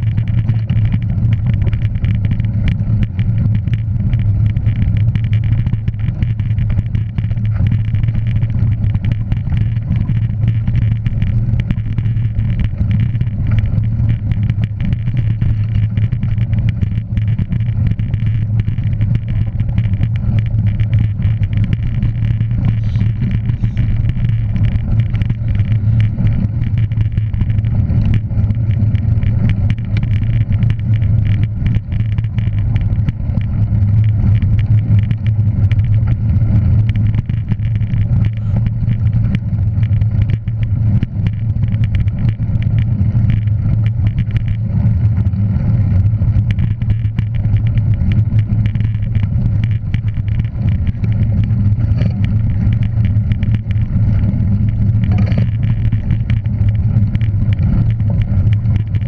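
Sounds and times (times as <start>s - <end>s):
vehicle engine low drone: 0.0s - 59.0s.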